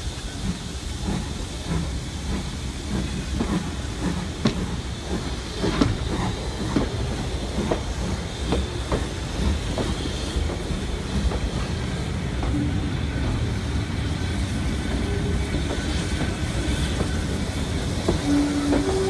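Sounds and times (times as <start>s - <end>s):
train rumble and hiss: 0.0s - 19.0s.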